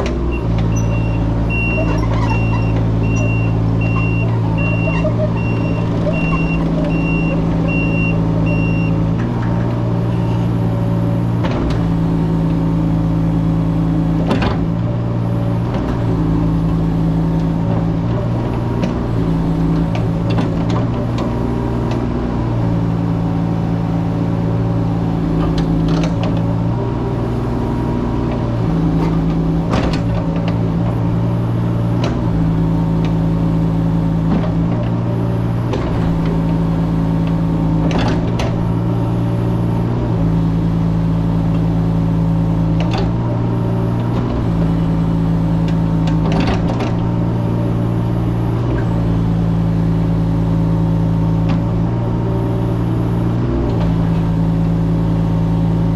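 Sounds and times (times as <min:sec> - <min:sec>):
mini excavator engine running: 0:00.0 - 0:55.9.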